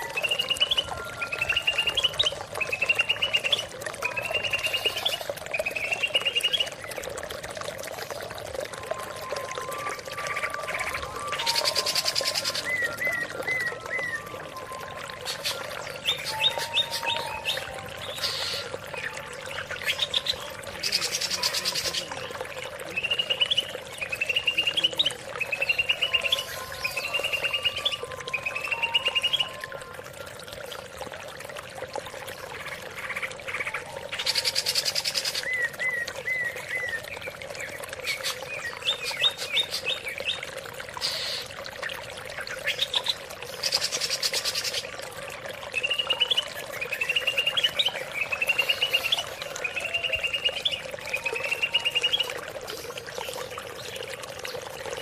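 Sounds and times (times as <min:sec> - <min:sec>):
bird singing trilled phrases: 0:00.0 - 0:07.2, 0:08.0 - 0:29.7, 0:32.4 - 0:55.0
running water: 0:00.0 - 0:55.0.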